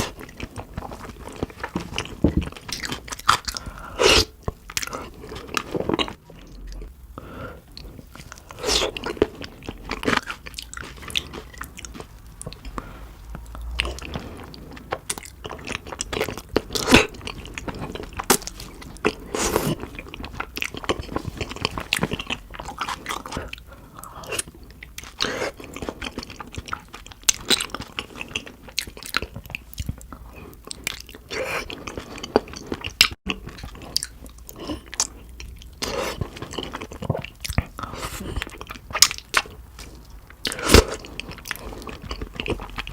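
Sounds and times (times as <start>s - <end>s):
wet chewing with smacks: 7.7s - 42.9s.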